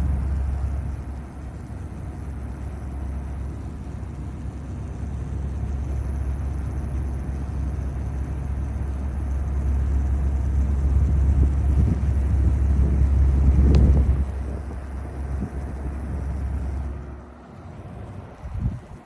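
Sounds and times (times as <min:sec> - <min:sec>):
table fan airflow rumble: 0:00.0 - 0:19.0.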